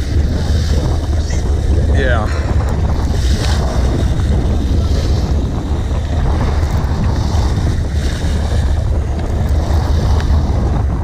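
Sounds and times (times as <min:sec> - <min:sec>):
rushing water: 0:00.0 - 0:11.0
steady low rumble: 0:00.0 - 0:11.0
wind buffeting microphone: 0:00.0 - 0:11.0.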